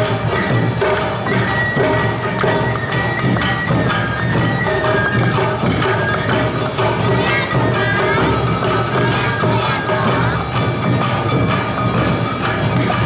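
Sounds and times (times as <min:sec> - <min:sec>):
bamboo flute melody: 0:00.0 - 0:13.0
drums: 0:00.0 - 0:13.0.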